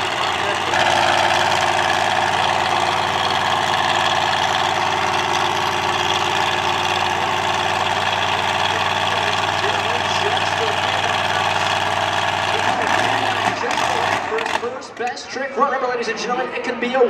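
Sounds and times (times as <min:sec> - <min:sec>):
monster truck engine running: 0:00.0 - 0:15.2.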